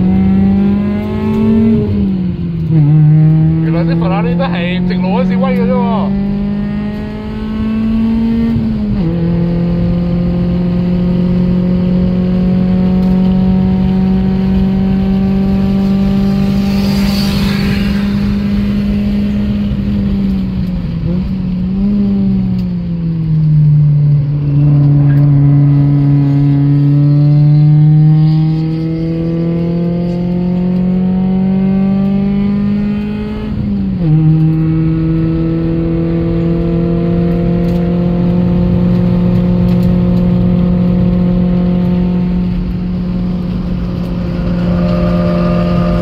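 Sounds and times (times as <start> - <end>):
car engine pulling hard: 0.0 - 23.5, 24.3 - 46.0.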